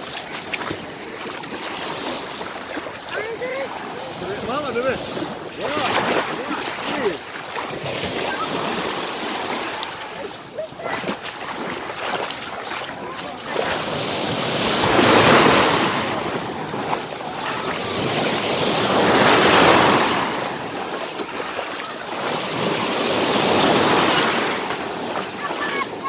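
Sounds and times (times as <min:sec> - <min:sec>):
waves breaking on sandy shore: 0:00.0 - 0:26.0.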